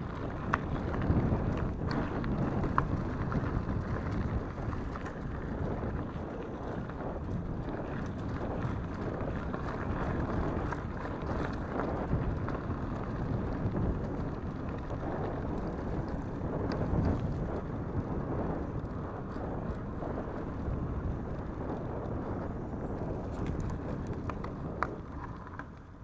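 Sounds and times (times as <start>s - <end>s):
bike tyres rolling on dirt: 0.0s - 26.0s
wind buffeting microphone: 0.0s - 26.0s.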